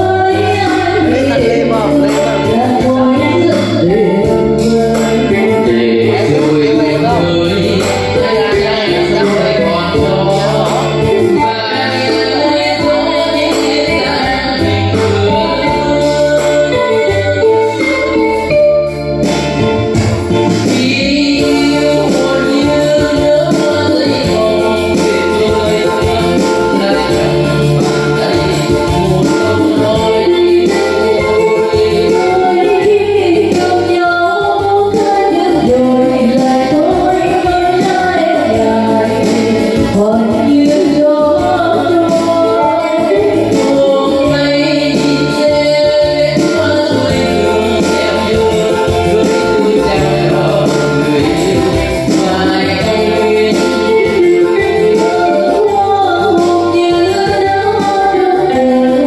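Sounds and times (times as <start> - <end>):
backing track with steady beat: 0.0 - 59.0
person singing into microphone: 0.0 - 59.0.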